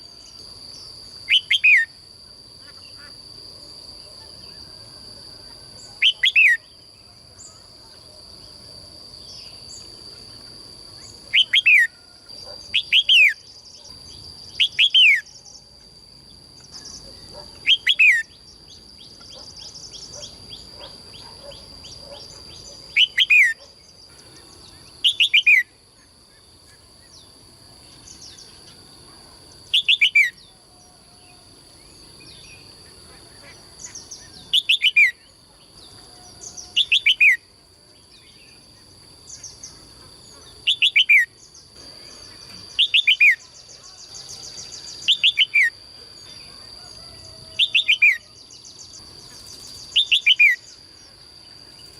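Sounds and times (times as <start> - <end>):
songbird calling: 0.0 - 2.0, 5.7 - 8.1, 9.2 - 15.9, 16.5 - 28.8, 29.7 - 51.9.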